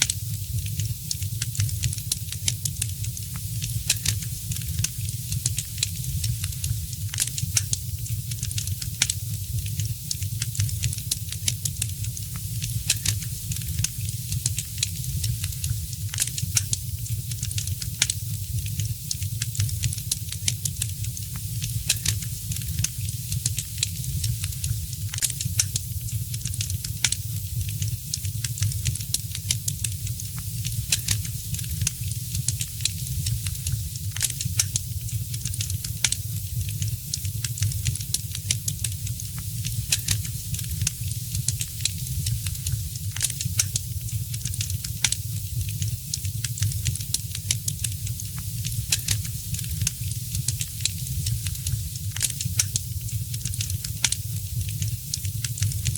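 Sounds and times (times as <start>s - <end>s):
fire crackling and popping: 0.0s - 55.9s
low fire rumble and hiss: 0.0s - 55.9s.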